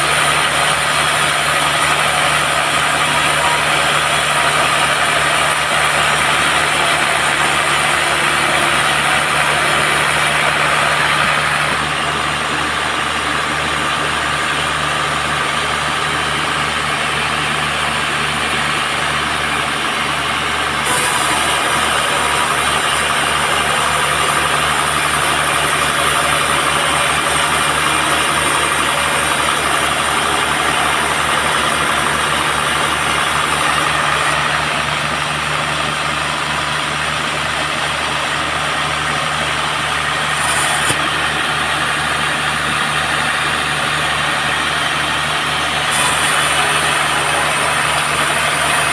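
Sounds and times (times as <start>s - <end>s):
band saw cutting a log: 0.0s - 48.9s.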